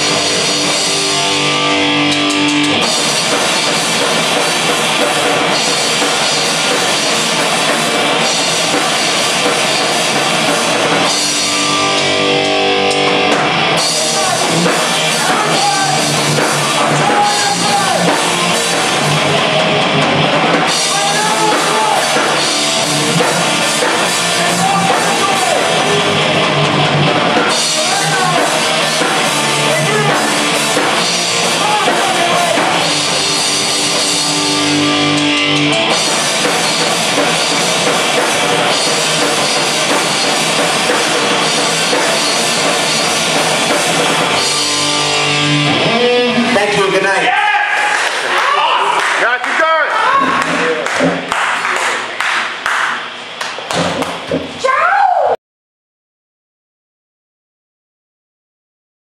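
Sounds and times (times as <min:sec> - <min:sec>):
drum kit: 0:00.0 - 0:46.8, 0:50.1 - 0:54.6
electric guitars: 0:00.0 - 0:48.7.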